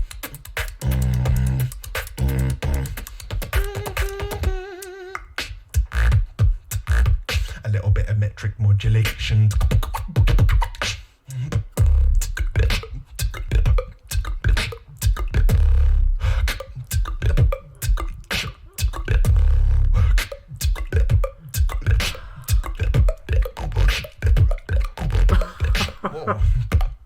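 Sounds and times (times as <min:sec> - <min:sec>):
beatboxing deep droning bass: 0:00.0 - 0:27.0
beatboxing mouth snares and hi-hats: 0:00.0 - 0:27.0.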